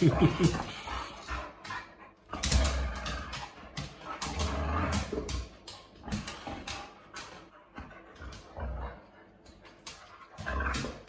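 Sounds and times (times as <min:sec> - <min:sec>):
dog breathy play noises: 0:00.2 - 0:11.0.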